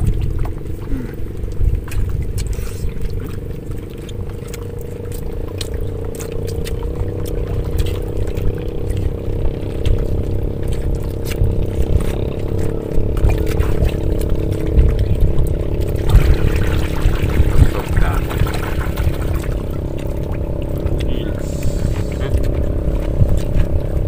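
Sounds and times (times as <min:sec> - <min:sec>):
engine hum: 0:00.0 - 0:24.0
water lapping around boat: 0:00.0 - 0:24.0.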